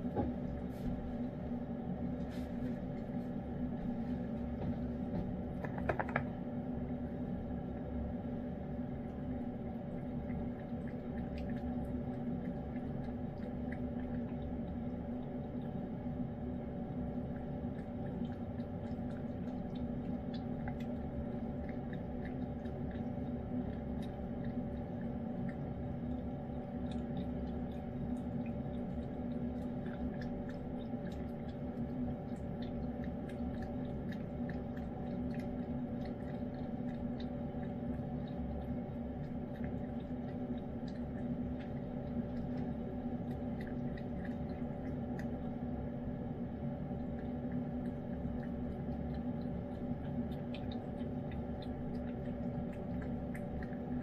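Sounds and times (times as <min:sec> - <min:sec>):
cat chewing and licking food: 0:00.0 - 0:54.0
low hum: 0:00.0 - 0:54.0.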